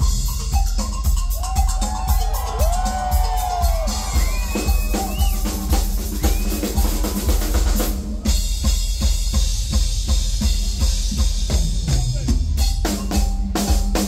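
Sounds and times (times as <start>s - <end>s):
live drum kit playing: 0.0s - 14.0s.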